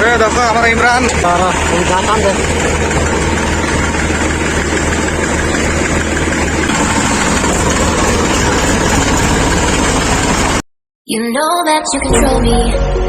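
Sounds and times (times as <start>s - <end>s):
tractor diesel engine idling: 0.0s - 10.6s.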